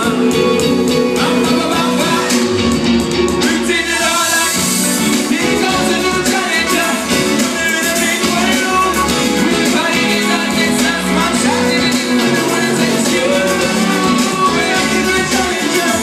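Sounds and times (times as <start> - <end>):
loud live music over speakers: 0.0 - 16.0
person singing: 0.0 - 16.0.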